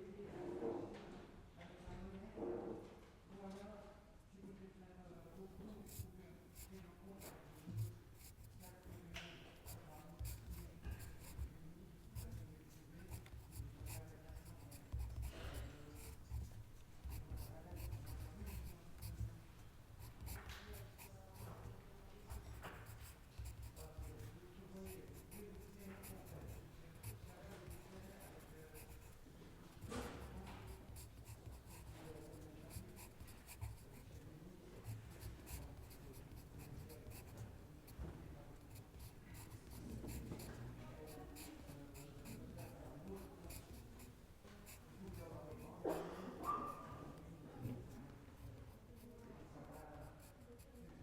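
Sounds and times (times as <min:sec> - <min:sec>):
murmur of hushed voices: 0:03.4 - 0:51.0
pencils scratching on paper: 0:05.6 - 0:19.4, 0:20.0 - 0:51.0.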